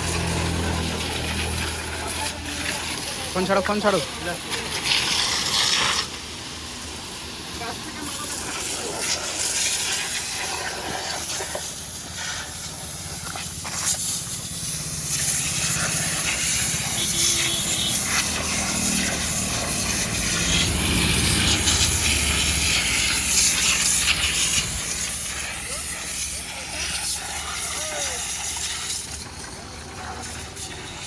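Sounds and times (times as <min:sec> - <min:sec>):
low engine hum: 0:00.0 - 0:04.9, 0:10.9 - 0:31.0
water spray hissing: 0:00.0 - 0:31.0.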